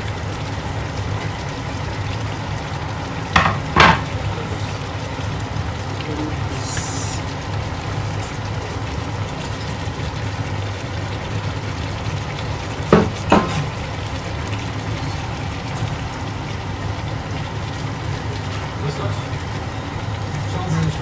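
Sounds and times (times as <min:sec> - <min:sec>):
sauce simmering in frying pan: 0:00.0 - 0:21.0.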